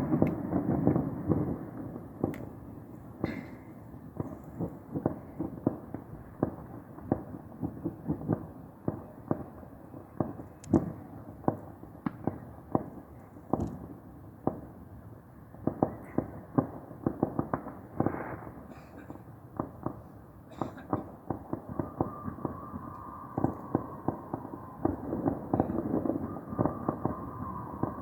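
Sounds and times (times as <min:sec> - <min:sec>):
fireworks bangs and pops: 0:00.0 - 0:14.8, 0:15.4 - 0:28.0.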